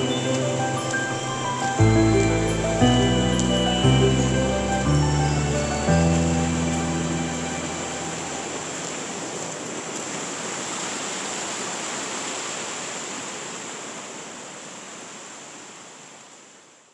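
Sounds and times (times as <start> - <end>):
waterfall rushing hiss: 0.0 - 16.9.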